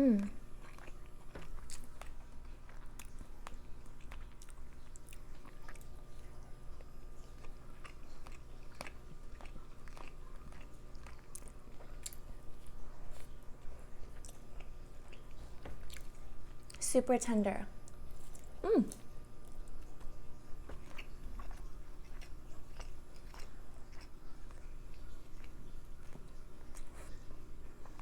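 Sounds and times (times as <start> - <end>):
person chewing with wet mouth clicks: 0.6 - 5.9, 6.8 - 12.8, 13.6 - 16.8, 17.8 - 27.2.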